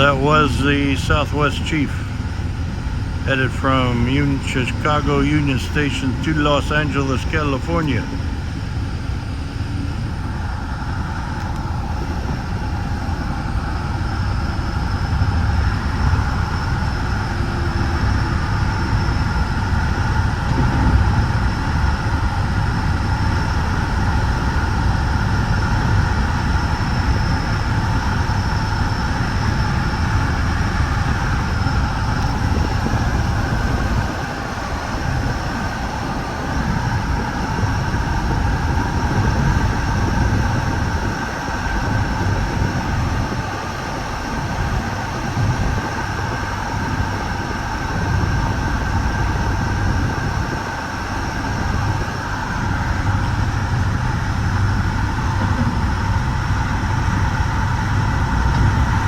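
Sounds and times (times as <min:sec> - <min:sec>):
faint high whine: 0:00.0 - 0:59.0
train wheels rumbling on rail: 0:00.0 - 0:59.0.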